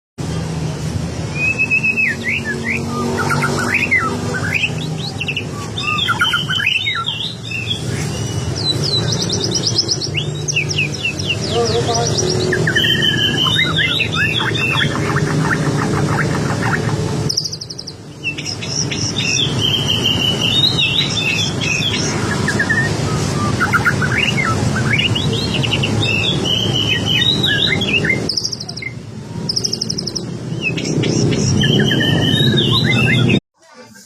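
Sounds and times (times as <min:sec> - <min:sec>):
bird singing chattering song: 0:01.2 - 0:34.0.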